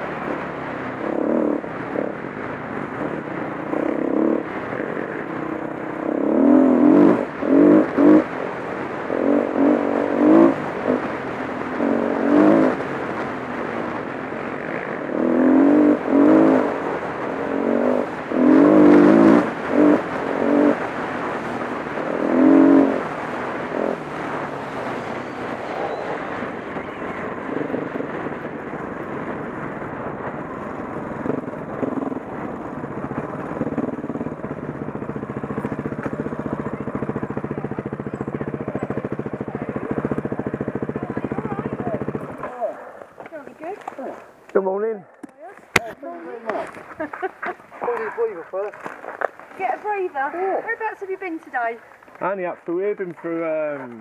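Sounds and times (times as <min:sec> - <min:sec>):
dirt bike engine revving: 0:00.0 - 0:44.2.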